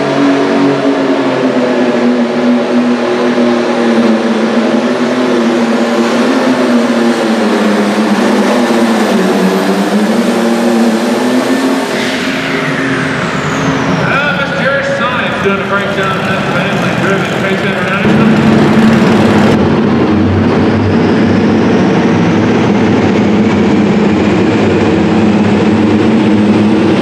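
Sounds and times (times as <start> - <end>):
high turbocharger whine: 0.0 - 27.0
tractor diesel engine at full power: 0.0 - 27.0.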